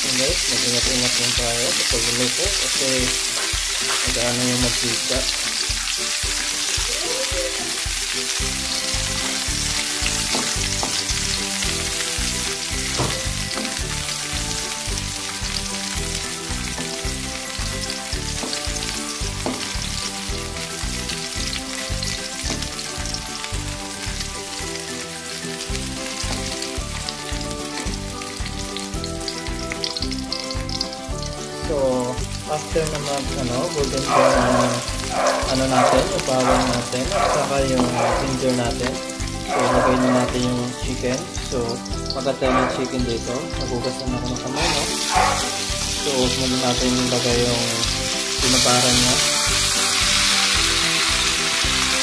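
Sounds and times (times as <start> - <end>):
background music with a beat: 0.0 - 52.0
food sizzling in hot oil: 0.0 - 52.0.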